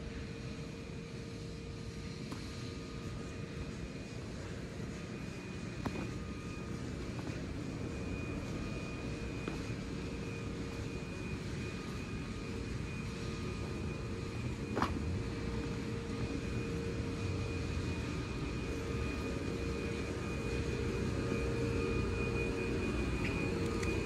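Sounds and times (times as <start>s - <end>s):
faint train whine: 0.0s - 24.0s.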